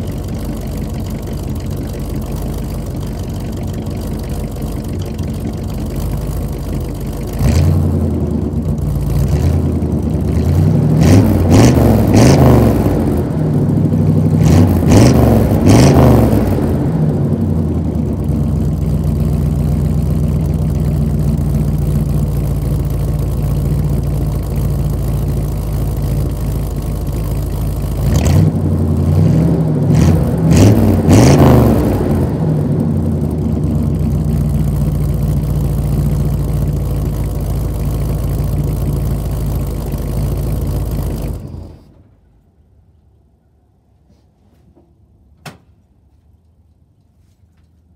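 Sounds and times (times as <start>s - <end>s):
pickup engine idling and revving: 0.0s - 41.9s.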